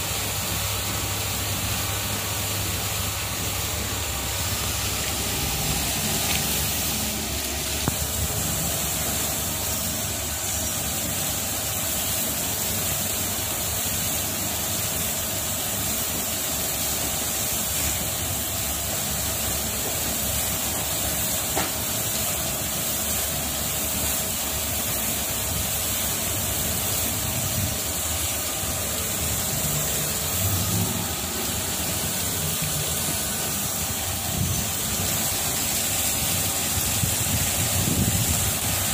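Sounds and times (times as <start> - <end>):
water spraying from jets: 0.0 - 38.9.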